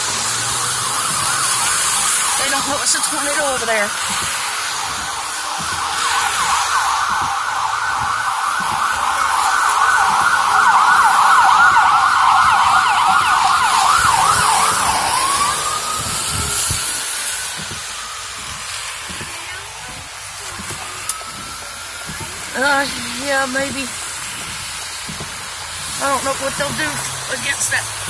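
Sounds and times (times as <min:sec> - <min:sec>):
ambulance siren: 0:00.0 - 0:28.0.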